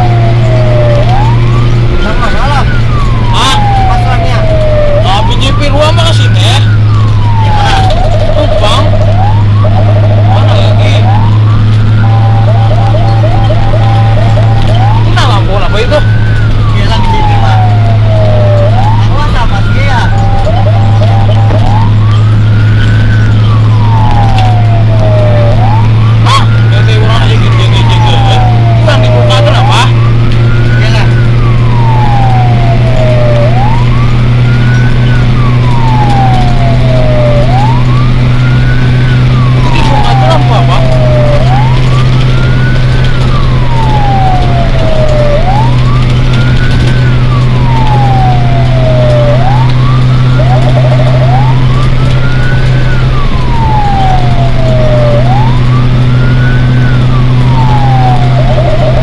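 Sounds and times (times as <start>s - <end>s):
fire engine siren wailing: 0.0s - 59.0s
low engine drone: 0.0s - 59.0s.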